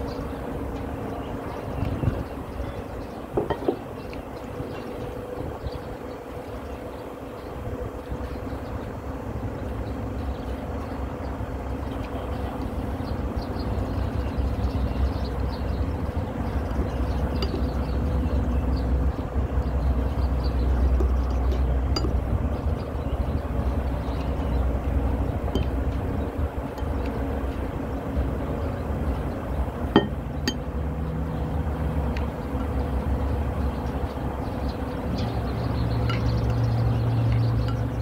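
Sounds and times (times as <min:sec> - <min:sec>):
low mechanical rumble: 0:00.0 - 0:38.0.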